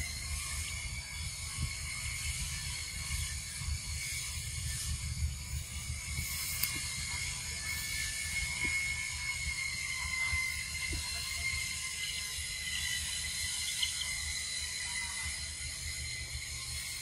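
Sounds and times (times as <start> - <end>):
insect chorus buzzing: 0.0 - 17.0.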